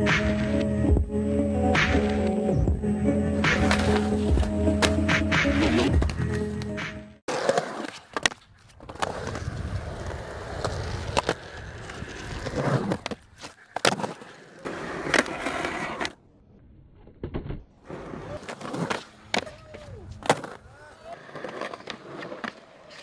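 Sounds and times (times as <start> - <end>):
skateboard wheels rolling on concrete: 0.0 - 23.0
skateboard popping and landing: 3.4 - 16.2, 16.9 - 23.0.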